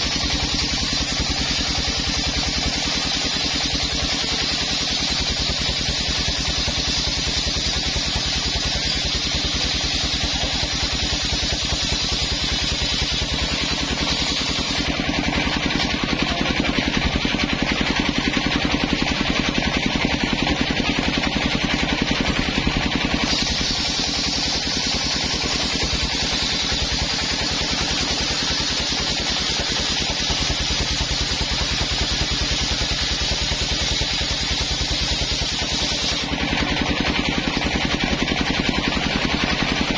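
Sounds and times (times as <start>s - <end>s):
circular saw cutting wood: 0.0s - 39.9s
engine running: 0.0s - 39.9s.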